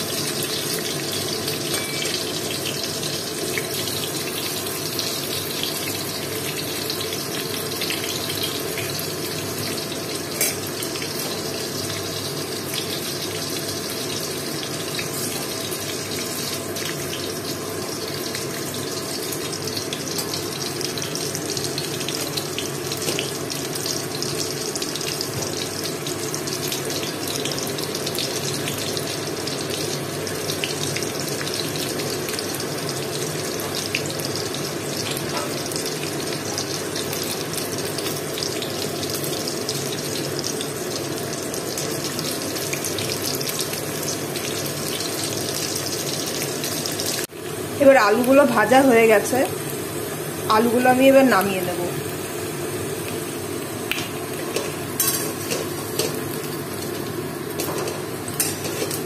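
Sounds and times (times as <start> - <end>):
potatoes sizzling in hot oil: 0.0 - 59.0.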